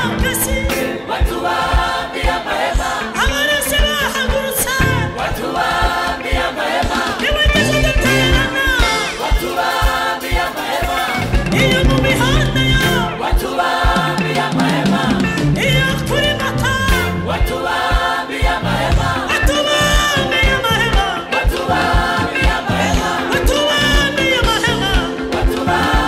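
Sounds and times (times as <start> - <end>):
gospel choir singing: 0.0 - 26.0
steady low drum beat: 0.0 - 26.0.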